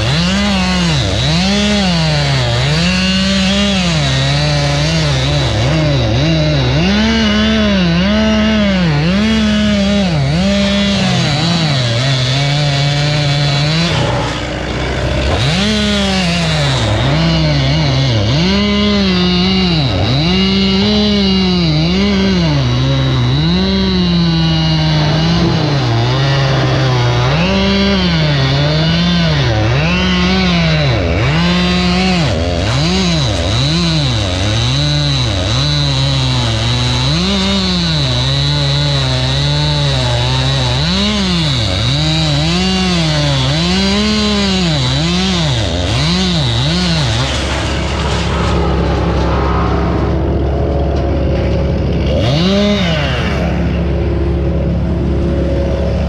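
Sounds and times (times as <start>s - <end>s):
chainsaw engine idling: 0.0s - 49.6s, 50.2s - 56.0s
chainsaw cutting wood: 0.0s - 56.0s
chainsaw engine rev: 0.0s - 56.0s.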